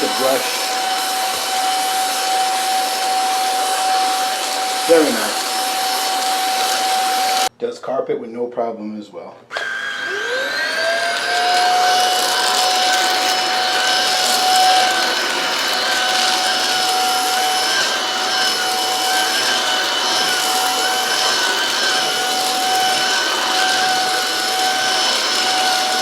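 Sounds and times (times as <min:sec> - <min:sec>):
vacuum motor whine: 0:00.0 - 0:07.5, 0:09.5 - 0:26.0.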